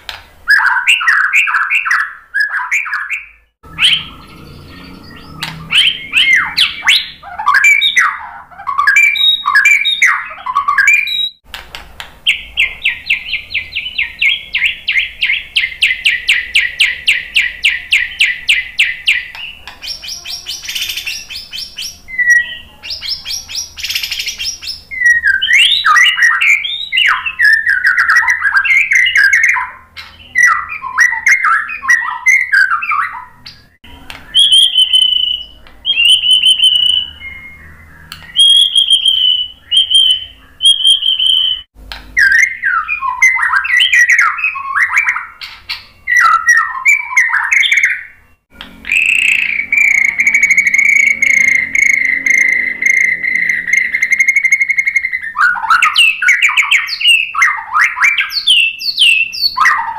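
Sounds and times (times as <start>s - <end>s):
bird singing: 0.5s - 11.4s, 12.2s - 59.9s.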